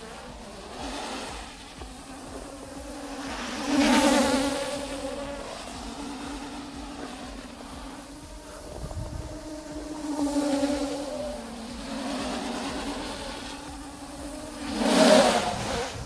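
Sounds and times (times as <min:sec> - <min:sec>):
quadcopter propellers buzzing: 0:00.0 - 0:16.0.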